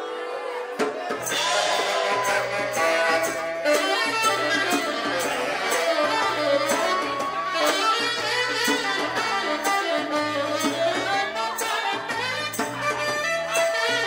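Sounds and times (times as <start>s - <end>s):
saxophone melody: 0.0s - 14.0s
steady drum beat: 0.8s - 14.0s
bass line: 1.0s - 14.0s.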